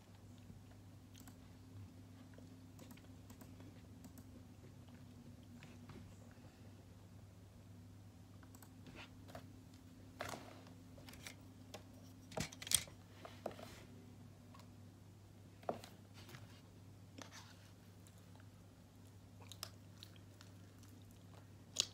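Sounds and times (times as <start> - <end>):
low electrical hum: 0.0 - 21.9.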